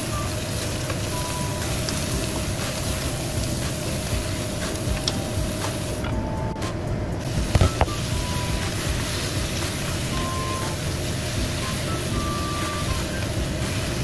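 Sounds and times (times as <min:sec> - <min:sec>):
food sizzling in a wok: 0:00.0 - 0:06.6, 0:07.2 - 0:14.0
steady rushing background: 0:00.0 - 0:14.0.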